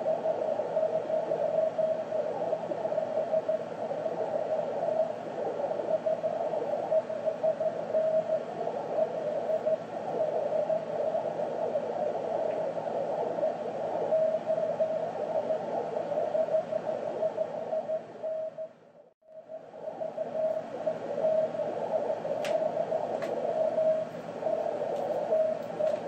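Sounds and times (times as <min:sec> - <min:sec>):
radio band hiss: 0:00.0 - 0:18.0, 0:19.6 - 0:26.0.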